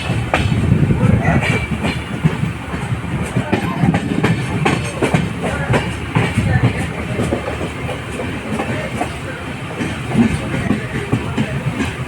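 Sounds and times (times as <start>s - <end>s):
train coach rumbling: 0.0s - 12.0s
wheels clicking over rail joints: 0.0s - 12.0s.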